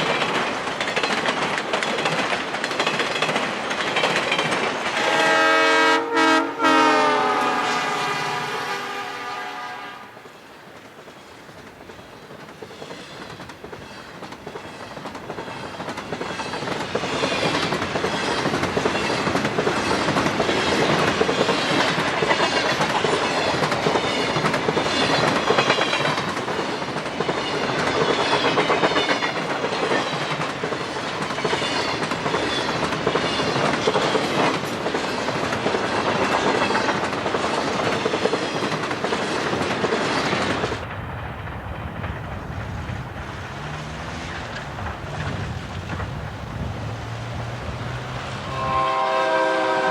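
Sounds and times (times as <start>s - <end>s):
train wheels clicking over rail joints: 0.0s - 5.7s, 10.2s - 49.9s
train rumble: 0.0s - 49.9s.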